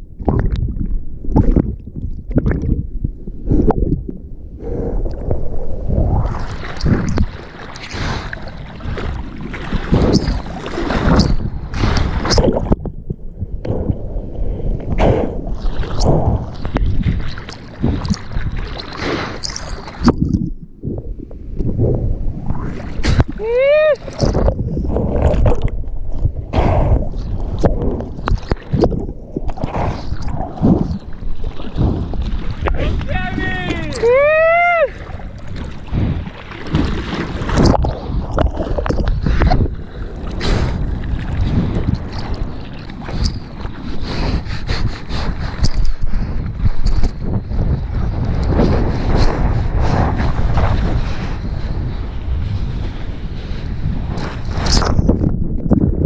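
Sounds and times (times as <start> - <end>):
wind buffeting microphone: 0.0 - 56.0
ocean water splashing: 4.9 - 13.0, 13.7 - 20.5, 21.3 - 55.2.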